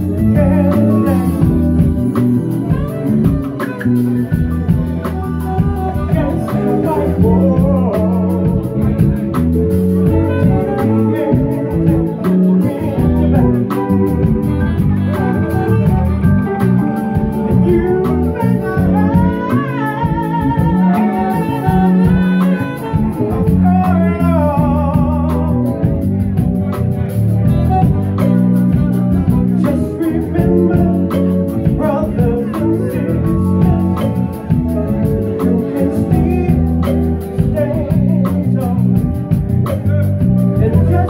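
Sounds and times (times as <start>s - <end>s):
electric bass: 0.0s - 41.0s
electric guitar: 0.0s - 41.0s
man singing into microphone: 0.0s - 41.0s.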